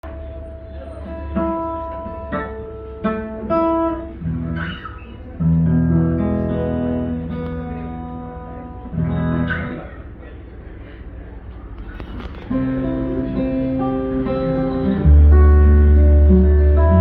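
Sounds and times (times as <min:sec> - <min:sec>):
acoustic guitar playing: 0:00.0 - 0:10.0, 0:12.3 - 0:17.0.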